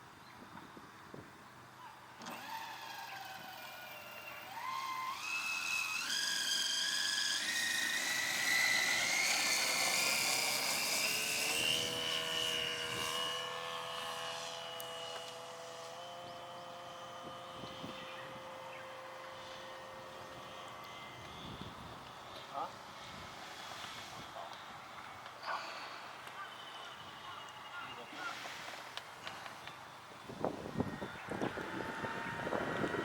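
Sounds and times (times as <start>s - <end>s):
model airplane motor whine: 2.2s - 27.3s, 29.4s - 33.0s.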